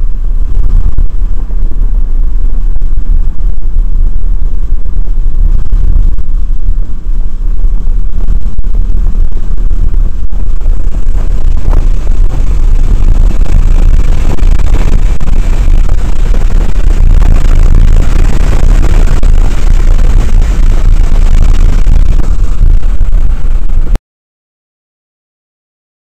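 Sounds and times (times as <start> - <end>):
car engine drone: 0.0 - 24.0
tyre and road noise: 0.0 - 24.0.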